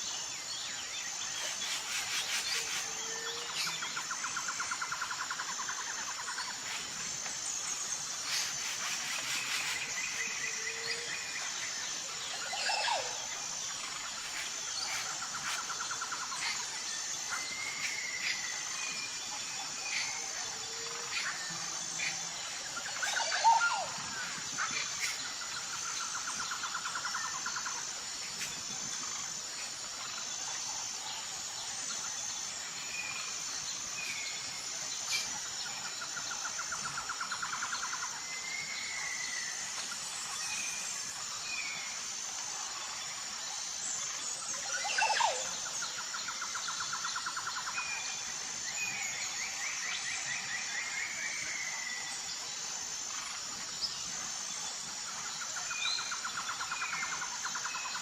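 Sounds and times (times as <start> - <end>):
pulsing insect chorus: 0.0 - 58.0.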